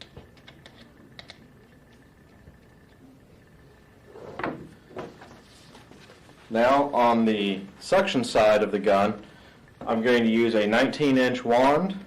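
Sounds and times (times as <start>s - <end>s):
faint high whine: 0.0s - 12.0s
steady low hiss: 0.0s - 12.0s.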